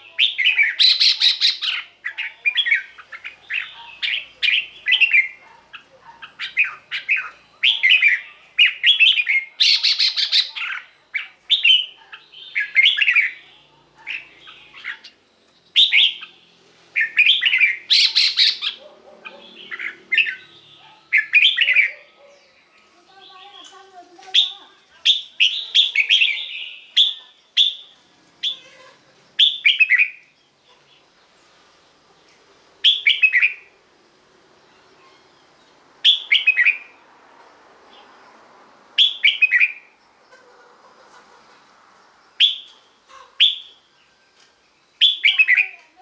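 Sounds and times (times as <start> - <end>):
bulbul singing: 0.0 - 30.5, 32.8 - 33.8, 35.1 - 37.0, 39.0 - 40.0, 42.4 - 46.0.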